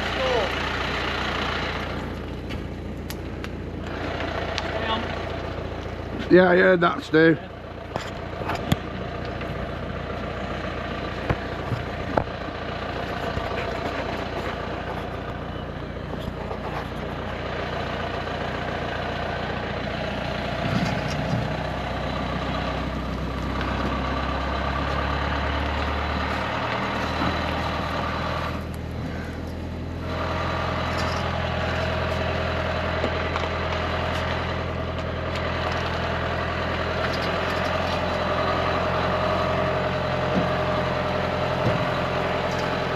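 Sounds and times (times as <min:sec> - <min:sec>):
engine running at low speed: 0:00.0 - 0:42.9.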